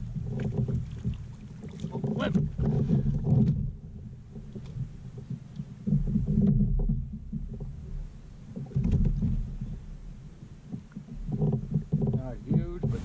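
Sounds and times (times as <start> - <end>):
muffled knocking from kayak: 0.0 - 13.0.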